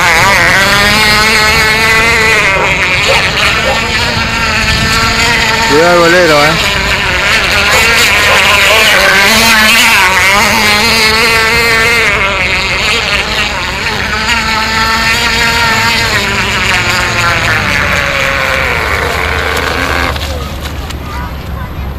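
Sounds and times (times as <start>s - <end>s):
model boat engine buzzing whine: 0.0s - 21.9s.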